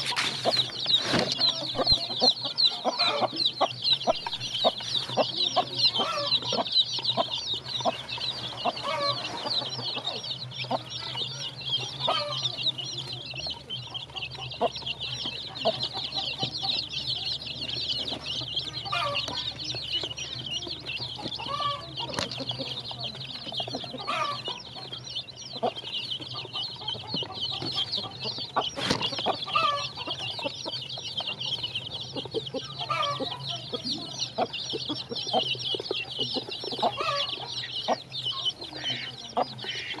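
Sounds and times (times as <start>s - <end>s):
chicks peeping: 0.0s - 40.0s
hen clucking: 0.0s - 40.0s.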